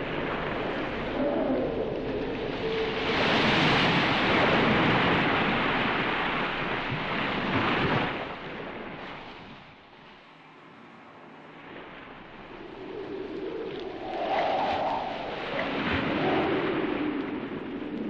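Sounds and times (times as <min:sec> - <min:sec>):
wind and surf rushing: 0:00.0 - 0:18.0.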